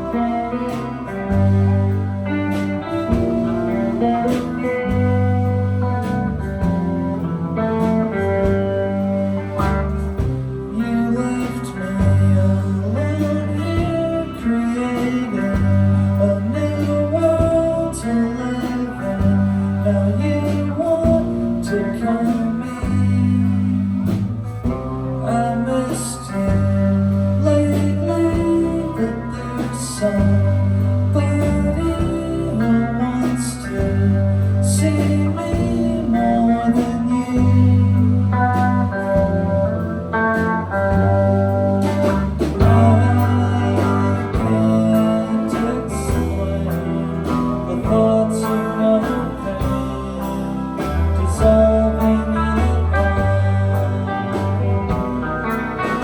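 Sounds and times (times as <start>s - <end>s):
bass line: 0.0s - 56.0s
guitar chords: 0.0s - 56.0s
live band playing blues country: 0.0s - 56.0s.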